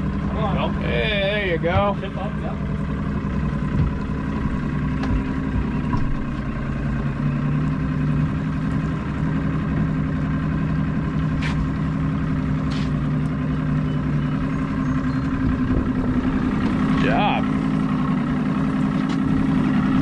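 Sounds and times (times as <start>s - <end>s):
boat engine idling: 0.0s - 20.0s.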